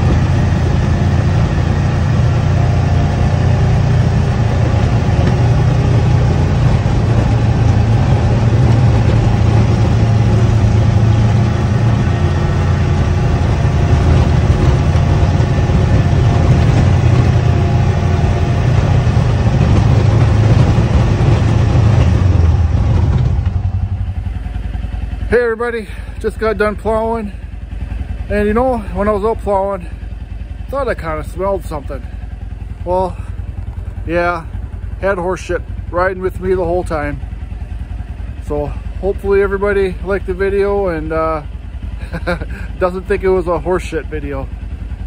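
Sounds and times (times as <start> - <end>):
utility vehicle engine running: 0.0 - 45.0.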